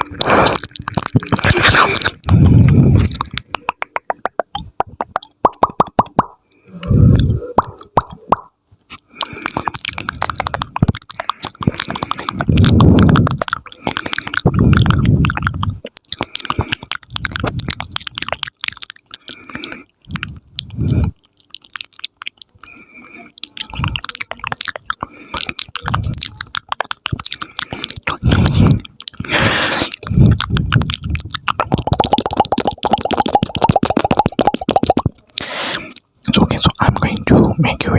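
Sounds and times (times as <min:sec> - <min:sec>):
wet mouth clicks and smacks: 0:00.0 - 0:37.9.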